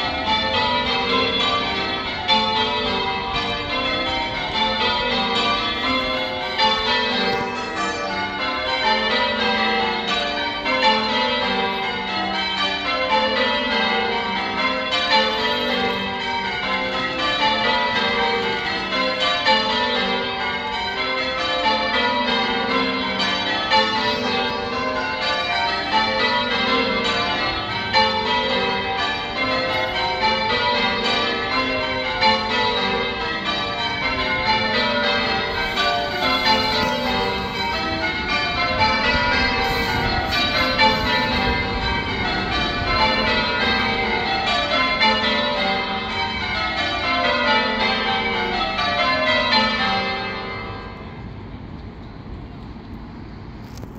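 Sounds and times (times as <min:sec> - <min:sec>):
church bells ringing: 0:00.0 - 0:52.6.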